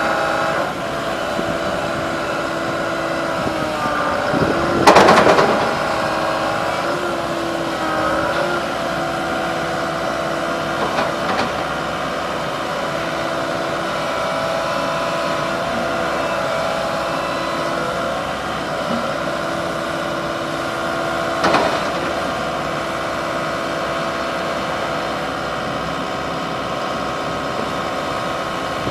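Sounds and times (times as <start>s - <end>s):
excavator diesel engine humming: 0.0s - 28.9s.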